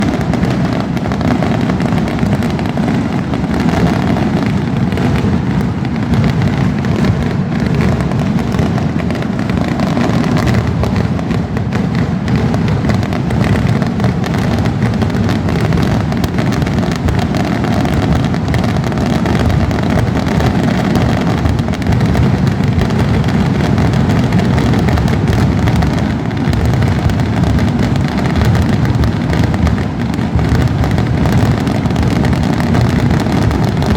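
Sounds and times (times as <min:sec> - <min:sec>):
firework bangs: 0:00.0 - 0:33.9.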